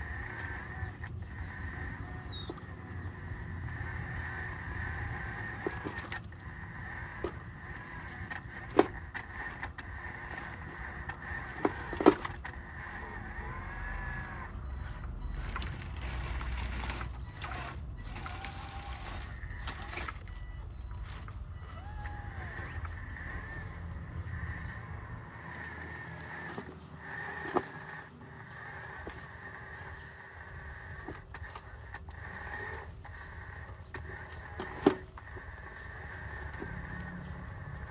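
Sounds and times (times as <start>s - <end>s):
small electric motors whining: 0.0s - 37.9s.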